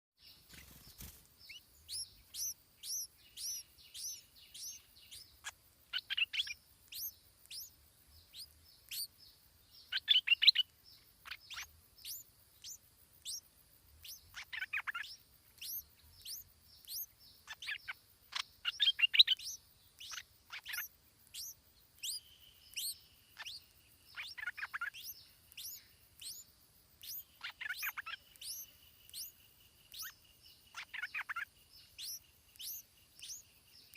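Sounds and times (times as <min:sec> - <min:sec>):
songbird chirping: 0:00.2 - 0:33.9
rapid bird chattering: 0:00.5 - 0:09.1, 0:09.8 - 0:13.4, 0:14.0 - 0:33.9.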